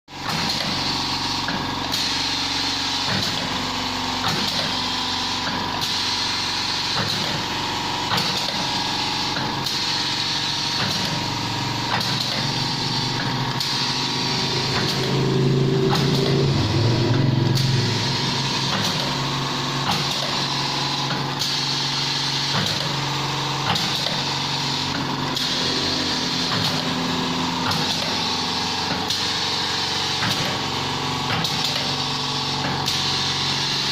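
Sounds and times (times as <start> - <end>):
deep loud hum: 0.1 - 33.9
printing machine motor hum: 0.1 - 33.9.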